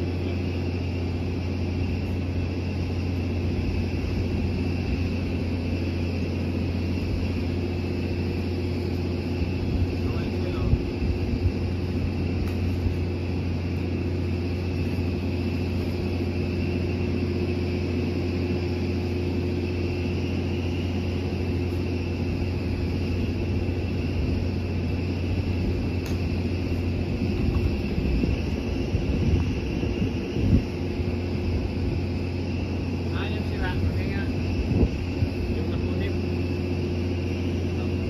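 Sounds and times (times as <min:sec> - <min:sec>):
engine droning: 0:00.0 - 0:38.0
engine whine: 0:00.0 - 0:38.0.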